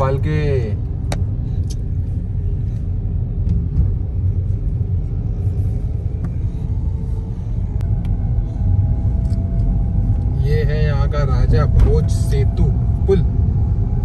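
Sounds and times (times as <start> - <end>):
car road rumble inside cabin: 0.0 - 14.0.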